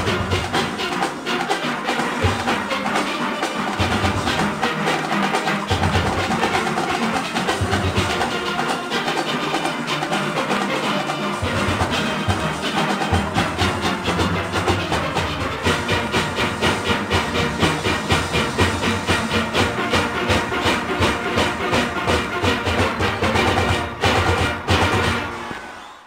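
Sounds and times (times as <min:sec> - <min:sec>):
steelpans playing: 0:00.0 - 0:25.8
percussion rhythm: 0:00.0 - 0:26.0.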